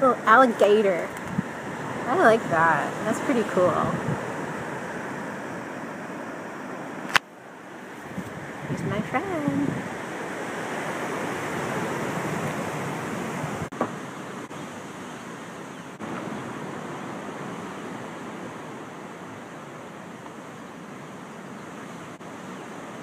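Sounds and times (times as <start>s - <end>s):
ocean surf: 0.0s - 23.0s
wind: 0.0s - 23.0s.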